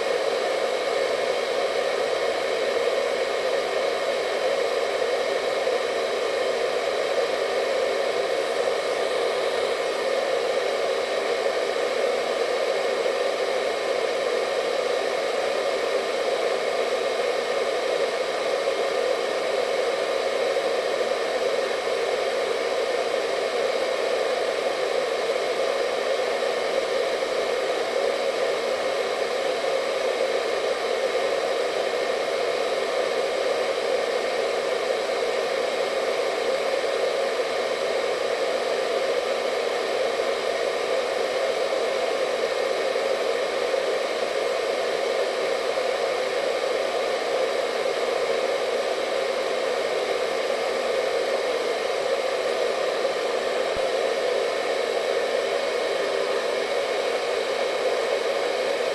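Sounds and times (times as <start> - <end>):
hair dryer running: 0.0 - 58.9
hair dryer whine: 0.0 - 58.9.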